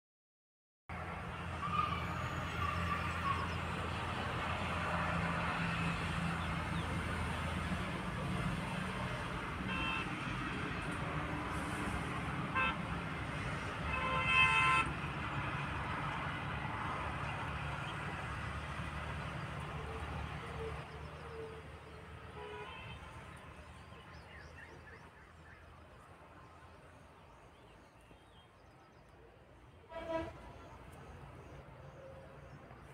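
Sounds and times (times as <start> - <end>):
outdoor background noise: 0.9 - 32.9
vehicle engine hum: 0.9 - 32.9.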